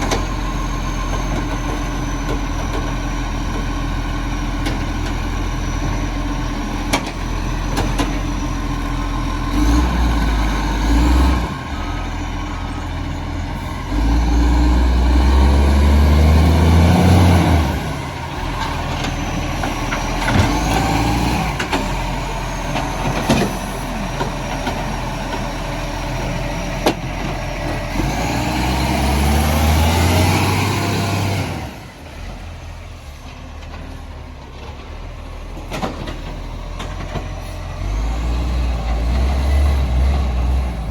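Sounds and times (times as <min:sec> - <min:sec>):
garbage truck engine revving: 0:00.0 - 0:32.8, 0:33.4 - 0:40.9.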